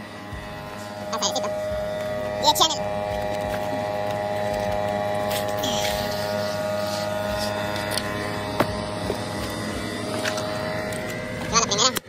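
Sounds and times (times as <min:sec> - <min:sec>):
motor humming steadily: 0:00.0 - 0:12.0.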